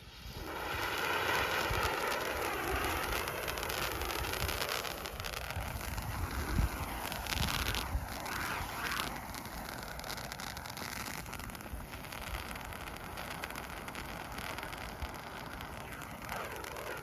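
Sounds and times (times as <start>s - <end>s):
ground firework hissing: 0.0s - 17.0s.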